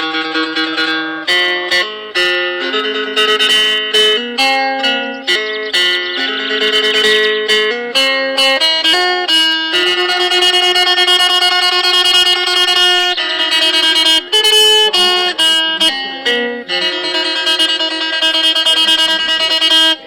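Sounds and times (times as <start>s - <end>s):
plucked lute melody: 0.0s - 20.0s.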